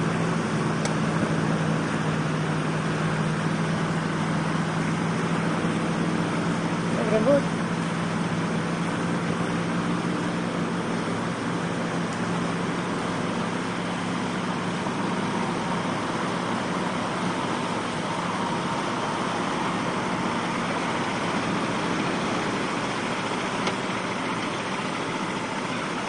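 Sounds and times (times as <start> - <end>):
truck engine droning: 0.0 - 26.0
wind: 0.0 - 26.0.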